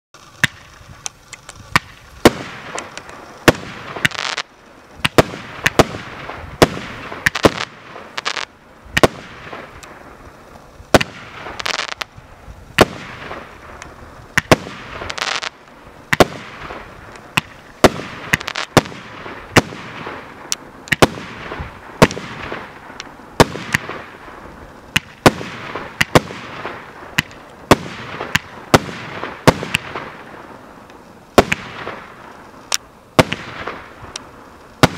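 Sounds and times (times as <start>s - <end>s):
firework bangs: 0.2s - 34.9s
firework crackling hiss: 0.2s - 34.9s.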